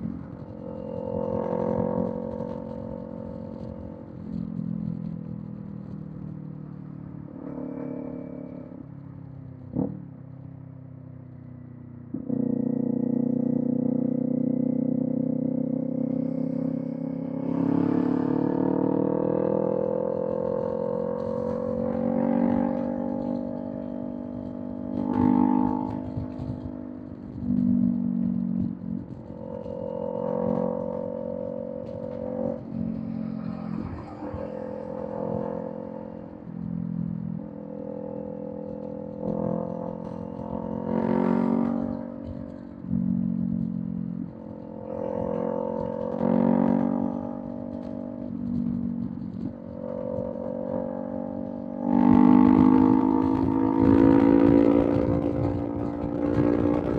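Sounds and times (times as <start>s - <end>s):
motorcycle engine running: 0.0s - 10.2s, 12.1s - 56.9s.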